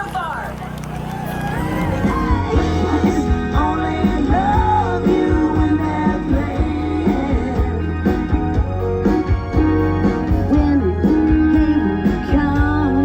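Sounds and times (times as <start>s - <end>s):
bass and steady beat: 1.3s - 13.0s
person singing: 1.5s - 8.6s, 9.5s - 13.0s.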